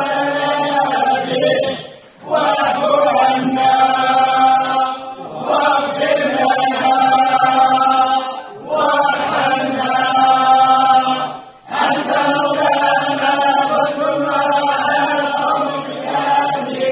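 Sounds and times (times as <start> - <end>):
men chanting in unison: 0.0 - 16.9.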